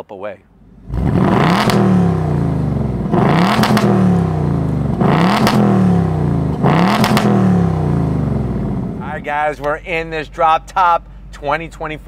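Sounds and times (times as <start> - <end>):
car engine revving: 0.6 - 12.0.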